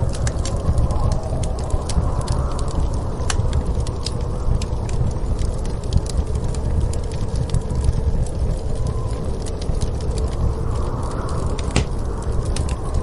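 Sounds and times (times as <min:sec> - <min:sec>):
fire pops: 0:00.0 - 0:13.0
storm wind rumble: 0:00.0 - 0:13.0
wood fire crackling: 0:00.0 - 0:13.0.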